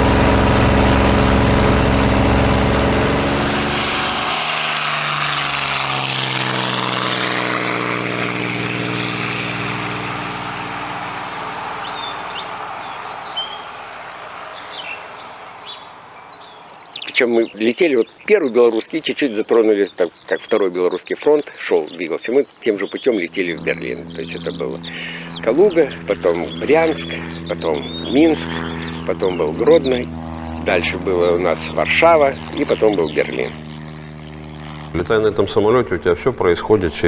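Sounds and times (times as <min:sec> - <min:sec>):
propeller aircraft engine drone: 0:00.0 - 0:37.0
birds chirping faintly: 0:04.0 - 0:37.0.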